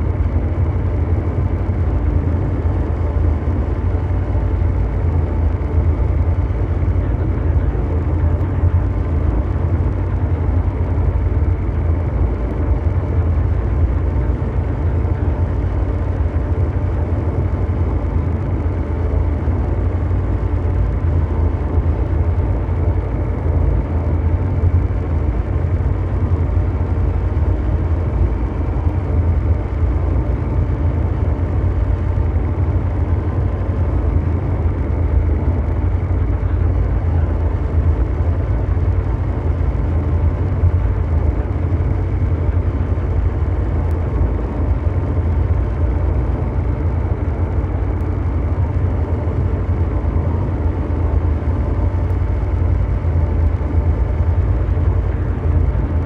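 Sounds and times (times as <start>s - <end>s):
brown noise: 0.0s - 56.0s
faint hum tones: 0.0s - 56.0s
low mechanical drone: 0.0s - 56.0s.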